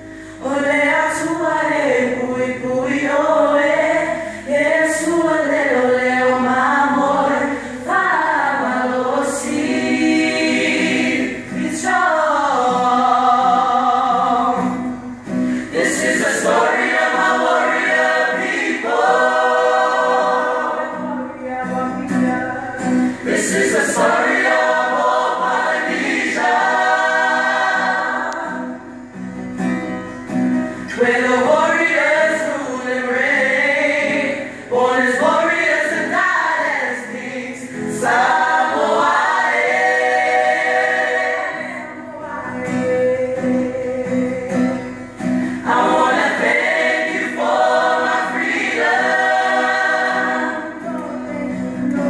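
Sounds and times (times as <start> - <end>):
mixed choir singing a cappella: 0.0 - 29.2, 30.7 - 52.0.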